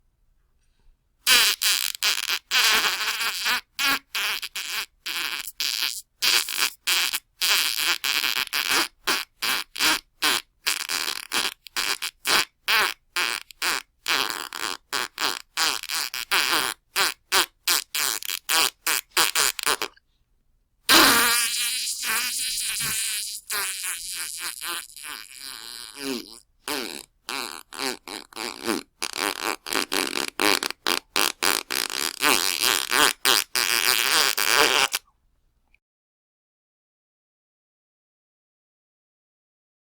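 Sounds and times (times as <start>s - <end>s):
long drawn-out fart: 1.2s - 20.0s, 20.9s - 35.0s
sputtering fart blasts: 1.2s - 20.0s, 20.9s - 35.0s.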